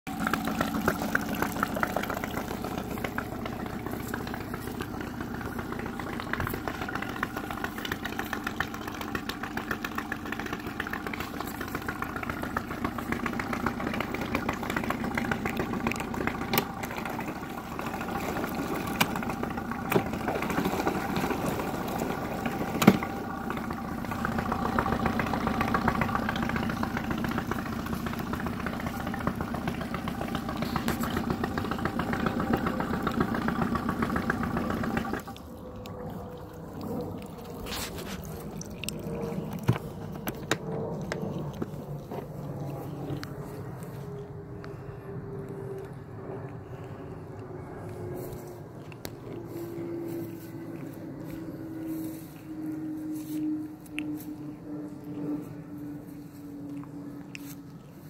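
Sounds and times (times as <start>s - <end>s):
outboard engine idling: 0.0s - 58.0s.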